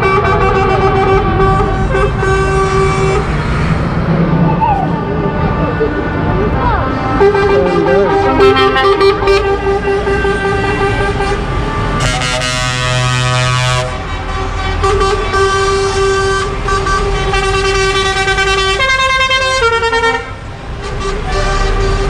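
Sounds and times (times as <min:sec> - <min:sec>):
truck air horns: 0:00.0 - 0:04.0, 0:06.9 - 0:22.0
diesel engines running: 0:00.0 - 0:22.0.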